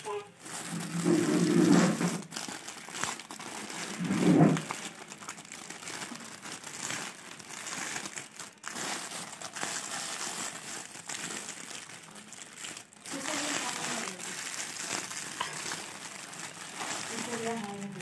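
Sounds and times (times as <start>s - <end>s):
plastic mailer bag crinkling: 0.0s - 18.0s.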